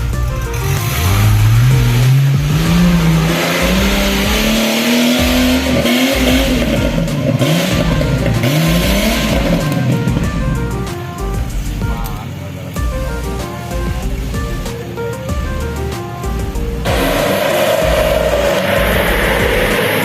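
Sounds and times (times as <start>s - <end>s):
background music: 0.0s - 20.0s
off-road vehicle engine revving: 0.0s - 20.0s.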